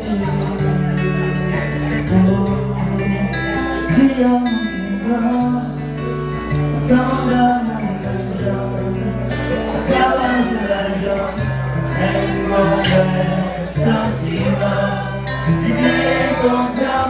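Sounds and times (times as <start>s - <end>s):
acoustic guitar: 0.0s - 17.0s
man singing into microphone: 0.0s - 17.0s.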